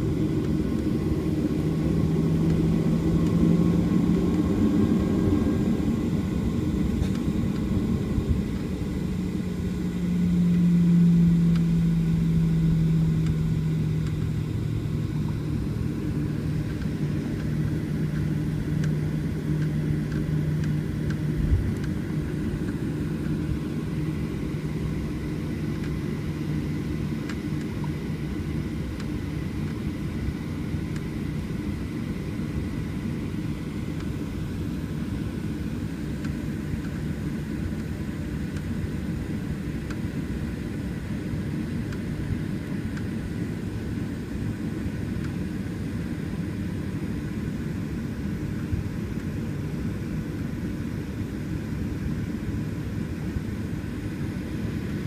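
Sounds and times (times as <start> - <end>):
airplane cabin rumble: 0.0 - 55.0
low hum: 0.0 - 55.0.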